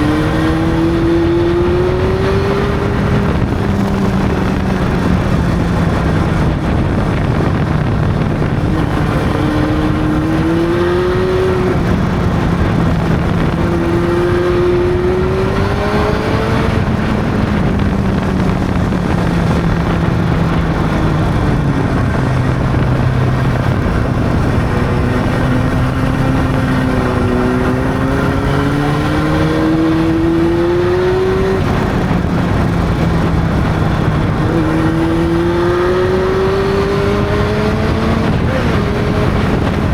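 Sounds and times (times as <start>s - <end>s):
motorcycle engine pulling through gears: 0.0s - 39.9s
wind noise: 0.0s - 39.9s.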